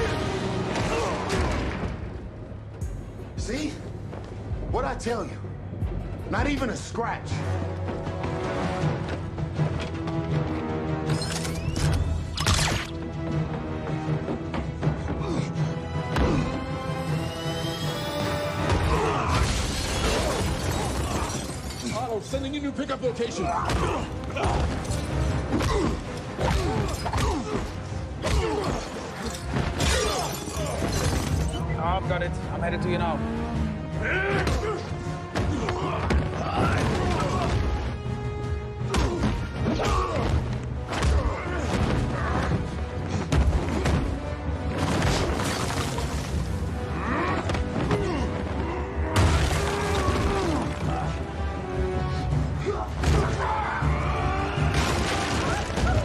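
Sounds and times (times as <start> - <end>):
film music score: 0.0 - 56.0.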